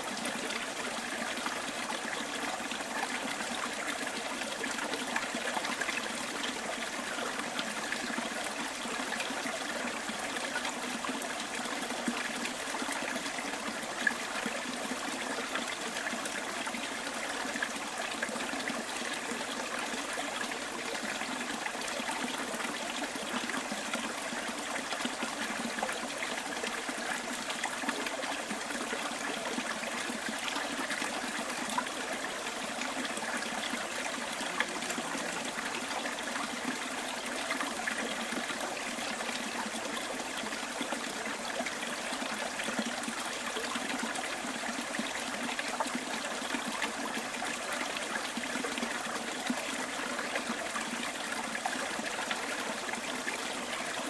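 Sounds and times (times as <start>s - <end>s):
stream babbling over stones: 0.0s - 54.0s.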